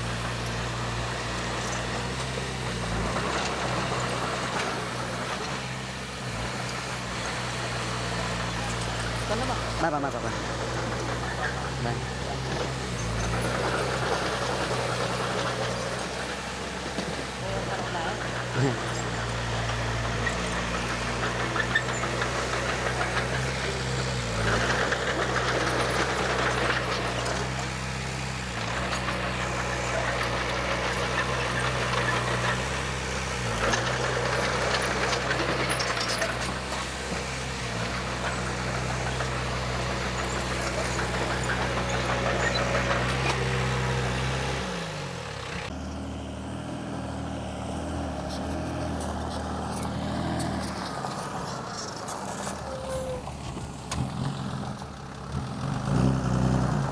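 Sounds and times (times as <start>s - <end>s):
bulldozer diesel engine under load: 0.0s - 56.9s.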